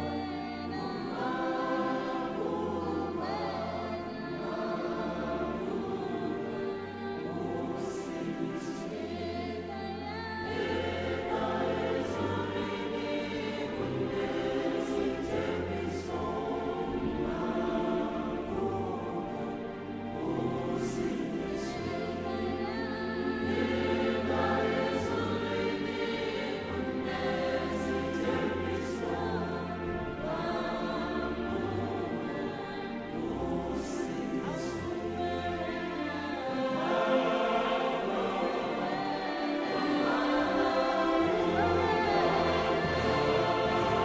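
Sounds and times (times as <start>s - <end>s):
choir singing: 0.0s - 44.0s.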